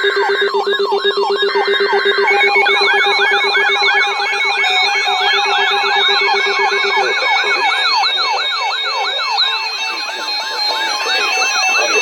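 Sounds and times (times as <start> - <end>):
electronic sirens falling sweeps: 0.0 - 12.0
steady held tones: 0.0 - 12.0.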